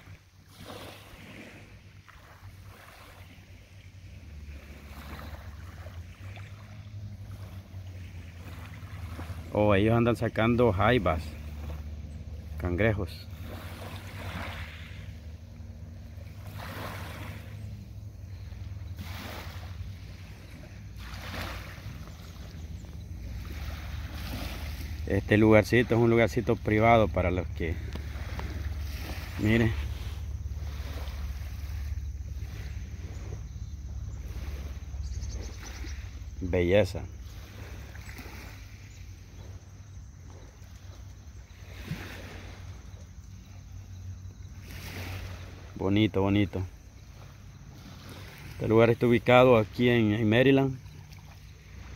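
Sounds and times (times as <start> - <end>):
small waves lapping on sand: 0.0 - 51.9.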